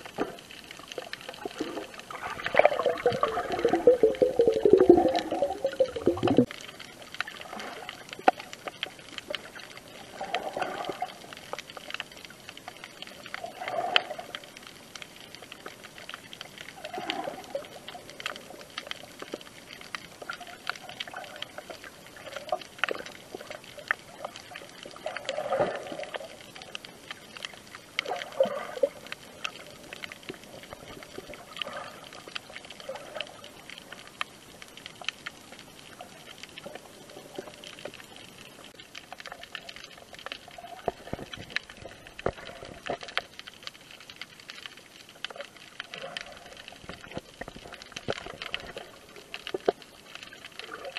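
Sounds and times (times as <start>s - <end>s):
muffled underwater sloshing: 0.0s - 50.9s
small underwater clicks: 0.0s - 50.9s.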